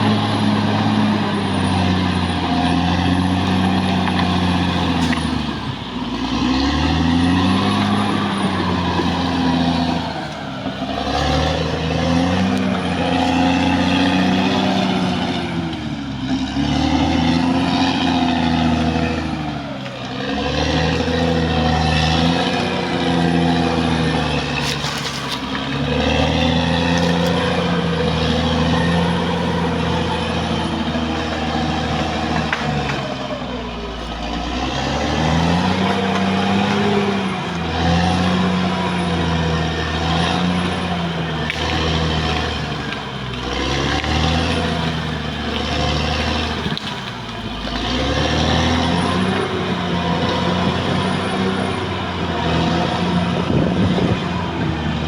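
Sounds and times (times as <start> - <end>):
bulldozer diesel engine working hard: 0.0 - 55.0.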